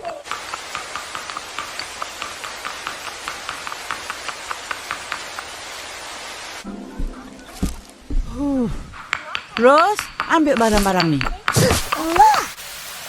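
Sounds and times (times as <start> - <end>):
drops ticking: 0.0 - 12.6
steady rain: 0.2 - 9.4, 10.0 - 13.0.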